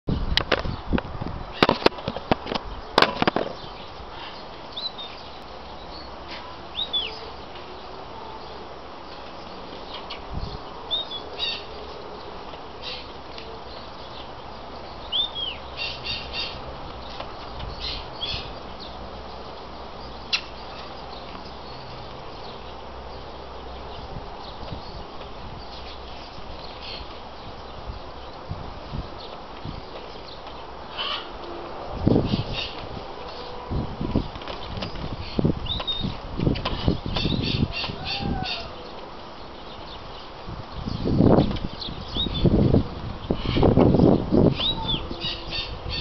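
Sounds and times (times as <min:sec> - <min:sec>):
outdoor background noise: 0:00.0 - 0:46.0
small birds chirping: 0:00.2 - 0:46.0.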